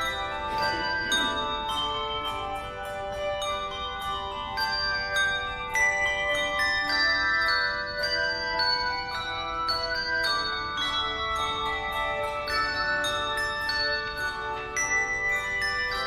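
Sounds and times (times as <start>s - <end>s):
tuned bells playing melody: 0.0s - 16.0s.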